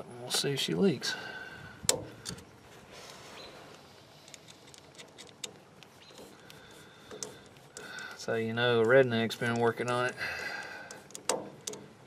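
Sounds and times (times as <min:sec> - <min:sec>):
small clicks of hose clamps: 0:01.8 - 0:12.0.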